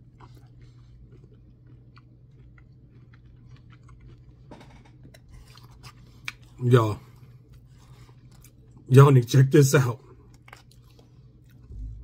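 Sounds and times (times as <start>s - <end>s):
man chewing: 0.0s - 8.9s, 10.0s - 12.0s
steady low hum: 0.0s - 12.0s.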